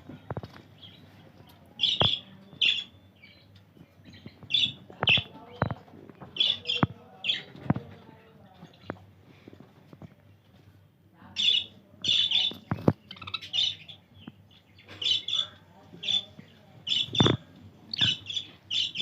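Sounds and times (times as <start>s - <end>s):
birds squawking and chirping: 0.0s - 7.8s, 11.4s - 19.0s.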